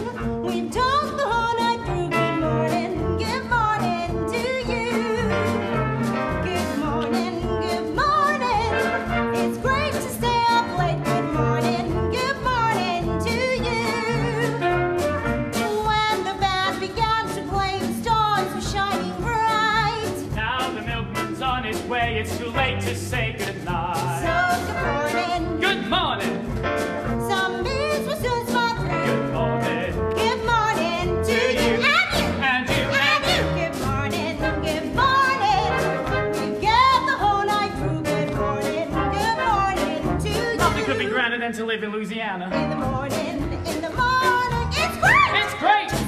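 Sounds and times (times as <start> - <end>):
swing band with brass: 0.0 - 46.0.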